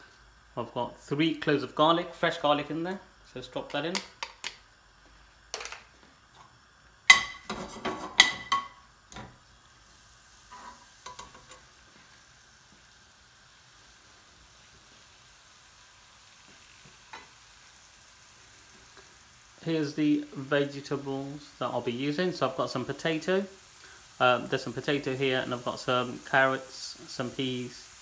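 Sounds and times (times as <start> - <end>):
garlic sizzling in oil: 0.0 - 28.0.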